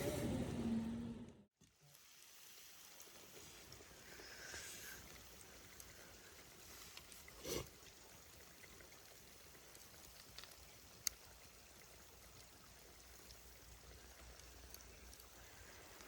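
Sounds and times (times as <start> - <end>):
faint steady hiss: 1.6 - 16.0.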